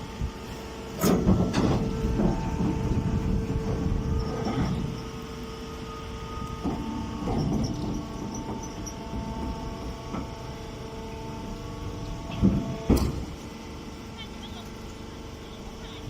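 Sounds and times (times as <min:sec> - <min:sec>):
baler motor humming: 0:00.0 - 0:16.0.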